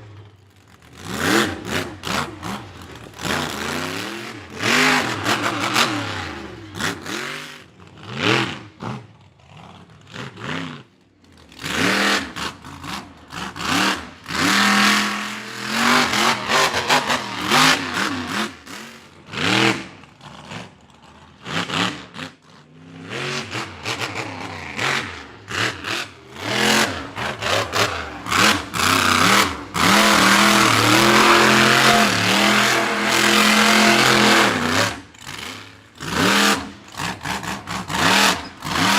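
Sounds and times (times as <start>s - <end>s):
monster truck engines revving: 0.0s - 38.9s.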